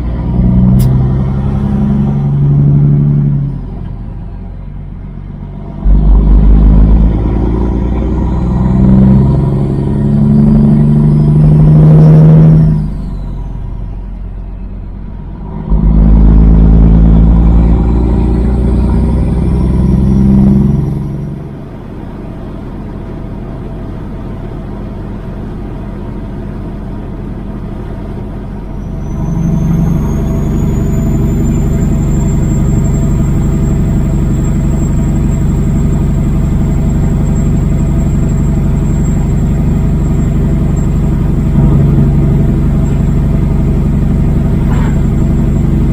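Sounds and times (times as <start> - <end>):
diesel truck engine driving: 0.0 - 45.9.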